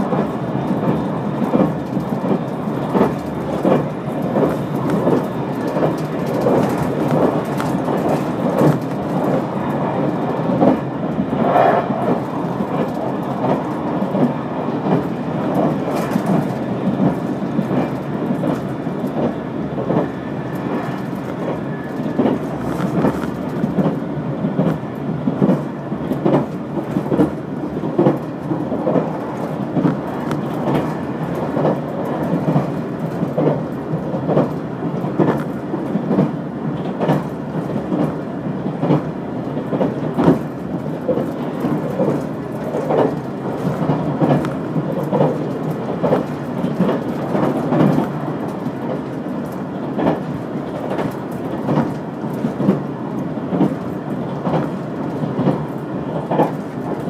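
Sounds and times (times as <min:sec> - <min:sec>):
train rumble from inside carriage: 0:00.0 - 0:57.0
wheels clicking on track: 0:00.0 - 0:57.0.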